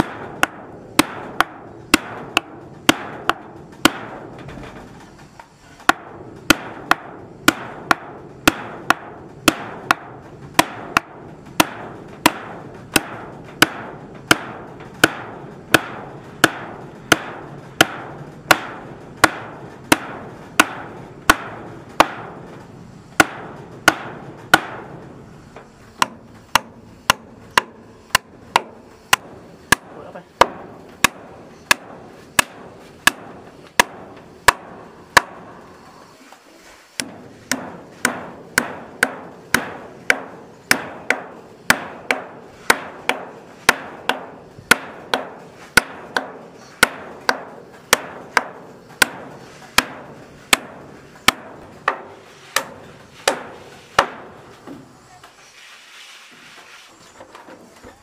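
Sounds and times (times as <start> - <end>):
hammer striking nails into wood: 0.0 - 4.9, 5.8 - 25.1, 26.0 - 35.5, 37.0 - 54.8.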